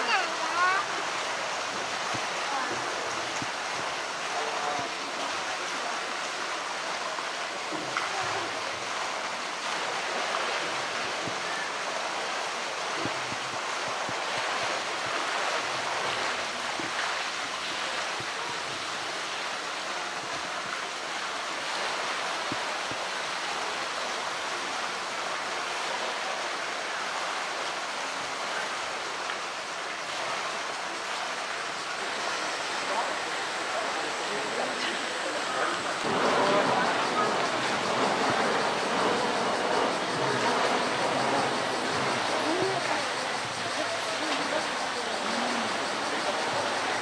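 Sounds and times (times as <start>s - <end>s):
water pouring into a pool: 0.0s - 47.0s.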